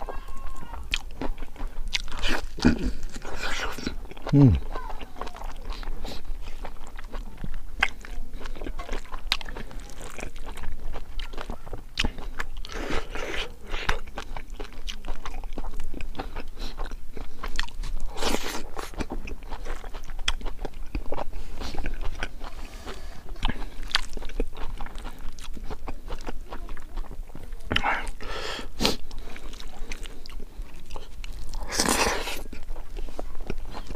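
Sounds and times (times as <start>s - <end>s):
chewing crispy food: 0.0s - 33.9s.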